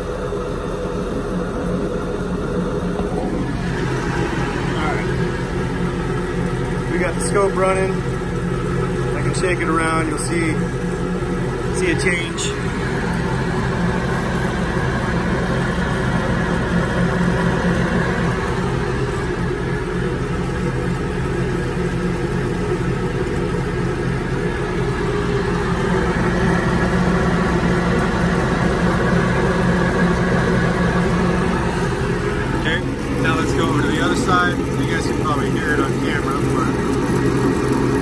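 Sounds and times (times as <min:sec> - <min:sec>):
drivetrain and spinning wheel drone: 0:00.0 - 0:38.0.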